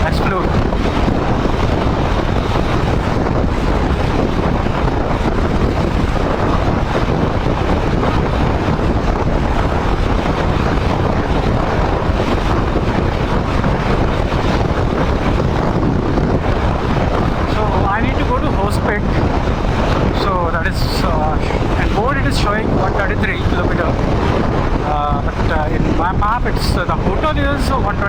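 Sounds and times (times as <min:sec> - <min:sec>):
motorcycle riding rumble: 0:00.0 - 0:28.0
wind buffeting microphone: 0:00.0 - 0:28.0.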